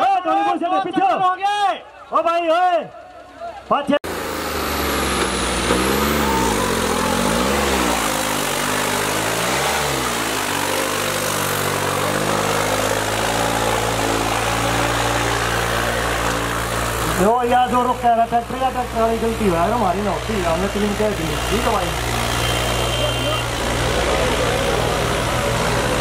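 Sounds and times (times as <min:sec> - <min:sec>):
tractor engine under load: 0:02.9 - 0:26.0.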